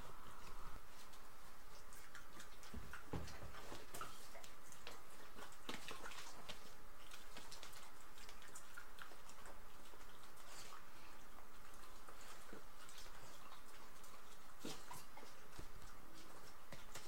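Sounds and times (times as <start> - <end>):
dogs making light clicks: 0.5 - 17.0.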